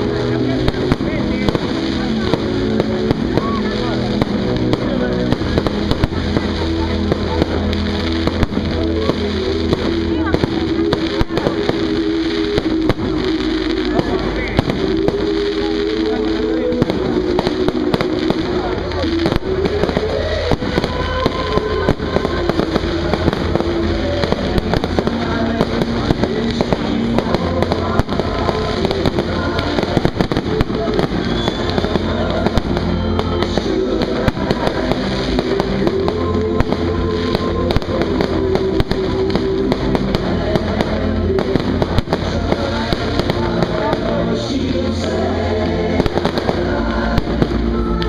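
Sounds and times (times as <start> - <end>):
fireworks bangs and crackles: 0.0 - 48.0
music playing: 0.0 - 48.0.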